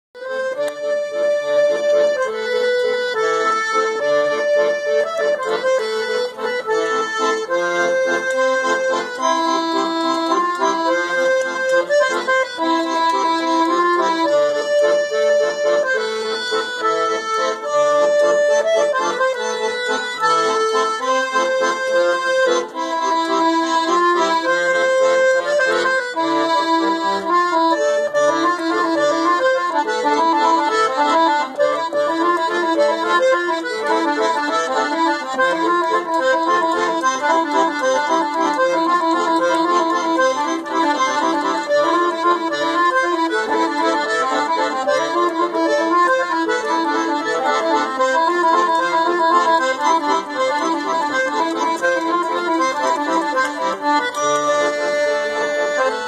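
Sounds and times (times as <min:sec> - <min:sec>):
accordion playing a waltz: 0:00.2 - 0:56.0.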